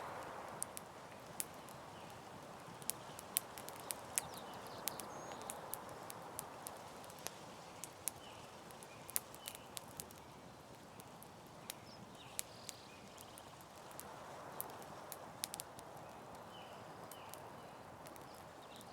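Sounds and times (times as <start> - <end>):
burning wood crackling and popping: 0.0 - 18.9.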